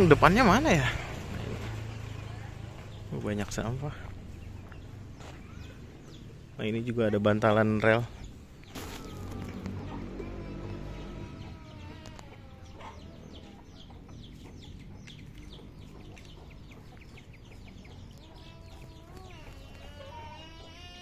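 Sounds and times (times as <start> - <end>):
chickens calling: 0.0 - 21.0.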